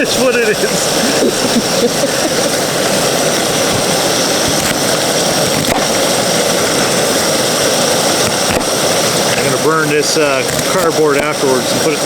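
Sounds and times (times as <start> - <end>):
canister stove burner hissing: 0.0 - 12.0.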